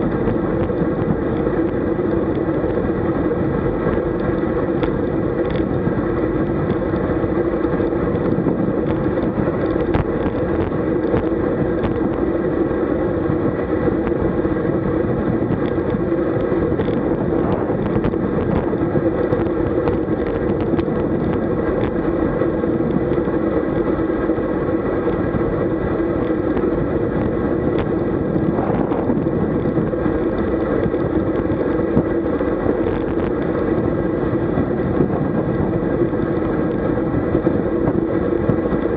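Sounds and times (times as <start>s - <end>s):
bicycle tyre noise: 0.0s - 38.9s
low hum: 0.0s - 38.9s
wind rushing: 0.0s - 38.9s.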